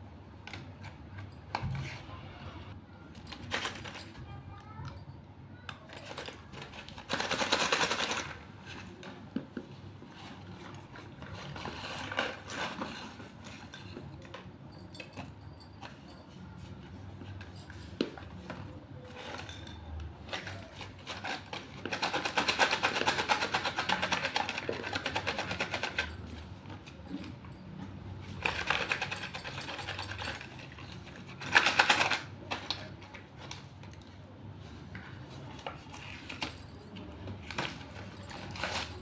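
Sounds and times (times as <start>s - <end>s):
slate pencils clattering and crunching: 3.1s - 4.3s, 5.6s - 39.0s.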